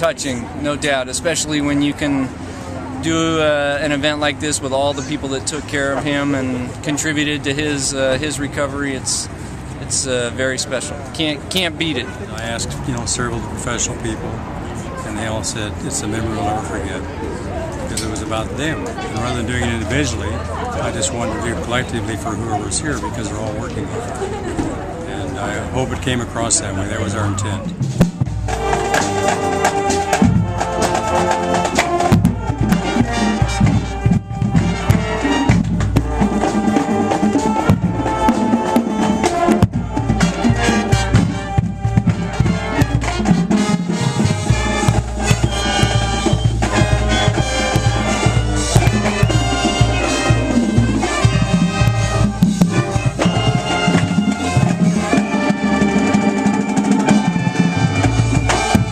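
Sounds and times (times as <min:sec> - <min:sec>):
marching band playing: 0:00.0 - 0:58.9.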